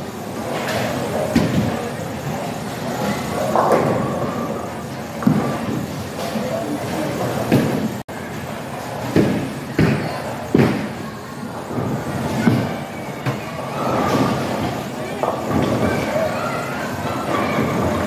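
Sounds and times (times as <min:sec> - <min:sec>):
bowling balls rolling: 0:00.2 - 0:18.0.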